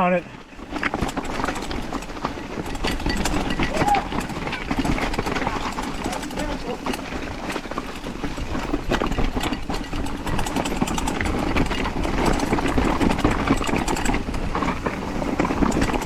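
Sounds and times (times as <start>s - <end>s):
bike rattling and clattering: 0.0s - 16.0s
bike tyre noise on trail: 0.0s - 16.0s.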